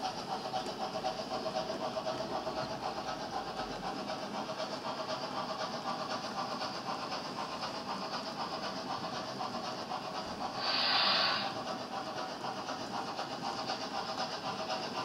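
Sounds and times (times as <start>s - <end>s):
model train wheels rattling on track: 0.0s - 15.0s.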